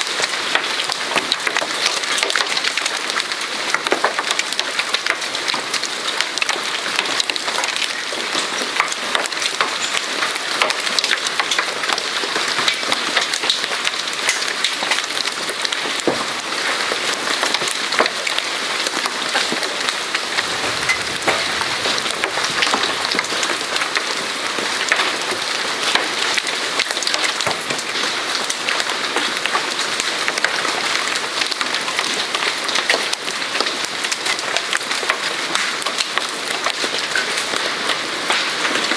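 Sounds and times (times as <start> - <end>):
hail and rain falling: 0.0 - 38.9.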